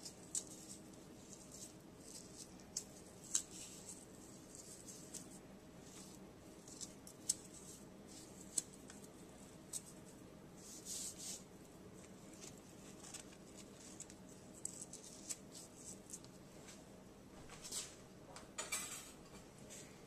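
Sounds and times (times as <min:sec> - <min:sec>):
hands rubbing and rustling: 0:00.0 - 0:16.8.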